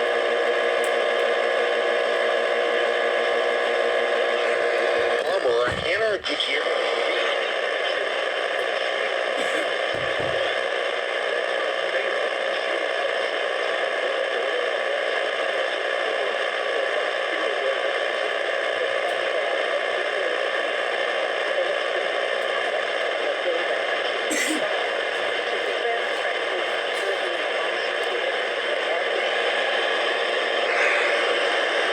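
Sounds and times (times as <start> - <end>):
radio static hiss: 0.0 - 31.9.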